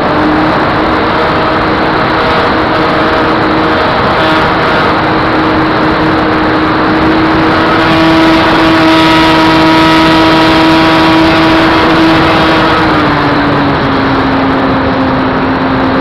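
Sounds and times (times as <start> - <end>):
electric motor and propeller whine: 0.0 - 16.0
rushing air noise: 0.0 - 16.0.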